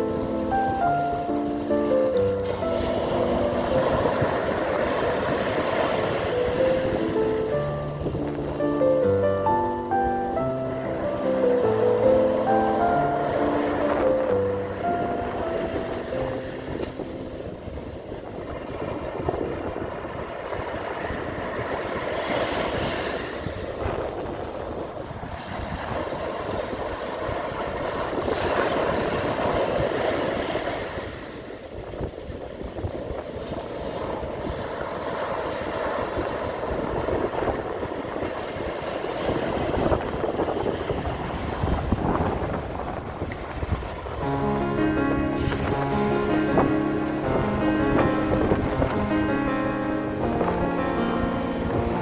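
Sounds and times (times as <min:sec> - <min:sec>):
sea waves breaking on a beach: 0:00.0 - 0:52.0.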